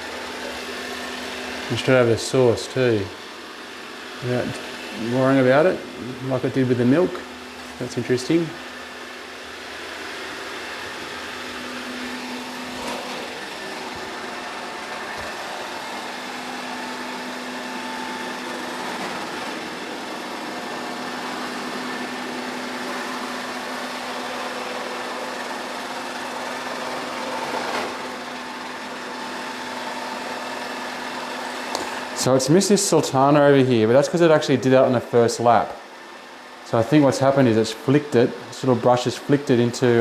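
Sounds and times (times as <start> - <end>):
robot vacuum motor hum: 0.0 - 40.0.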